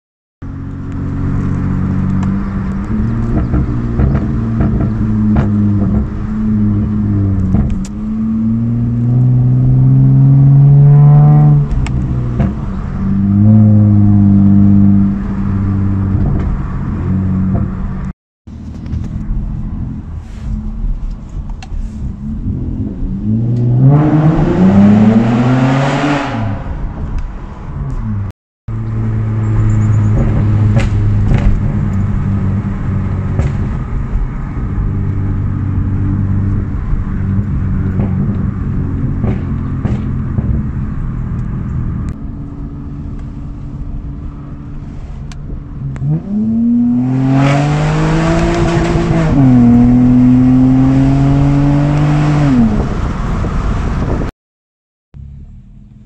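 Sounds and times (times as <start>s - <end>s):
car engine exhaust accelerating: 0.4s - 54.3s.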